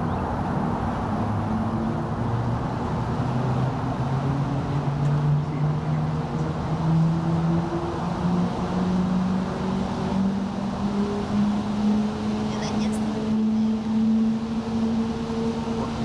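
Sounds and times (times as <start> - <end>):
cable car rushing ride noise: 0.0 - 16.0
rising whine: 0.0 - 16.0.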